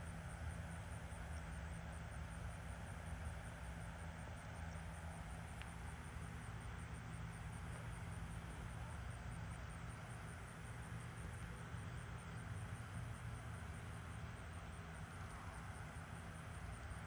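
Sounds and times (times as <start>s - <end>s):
crickets chirping: 0.0s - 17.0s
low steady hum: 0.0s - 17.0s.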